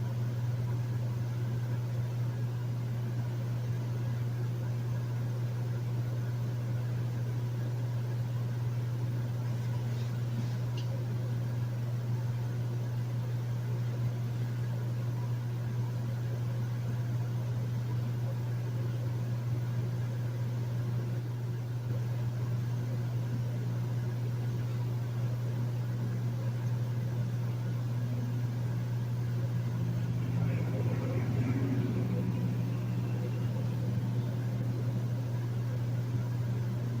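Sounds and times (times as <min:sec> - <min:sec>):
air conditioner hum: 0:00.0 - 0:37.0.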